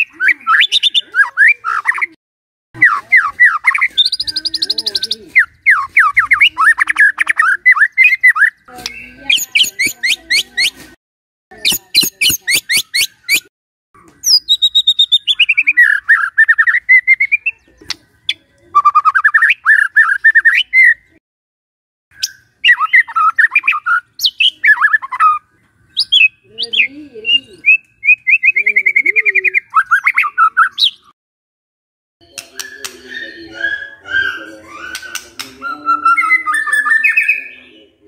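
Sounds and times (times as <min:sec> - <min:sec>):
songbird singing: 0:00.0 - 0:02.2, 0:02.8 - 0:21.2, 0:22.1 - 0:31.2, 0:32.2 - 0:38.0.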